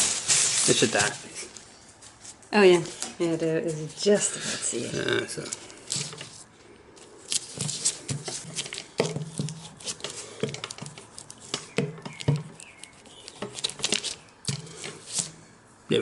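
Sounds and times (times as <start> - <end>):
thin fabric rustling: 0.0 - 15.4.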